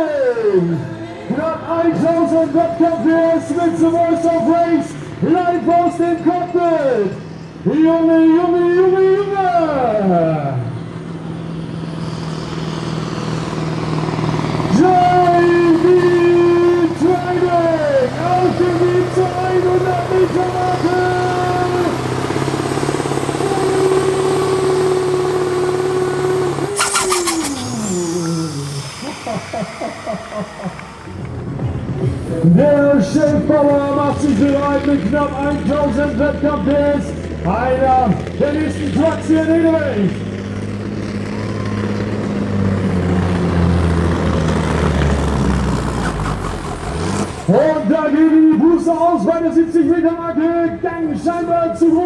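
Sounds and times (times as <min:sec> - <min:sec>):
diesel engine running flat out: 0:00.0 - 0:52.0.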